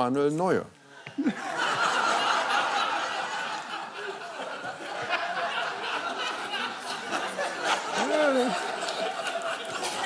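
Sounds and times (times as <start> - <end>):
studio audience laughing: 1.0 - 10.0.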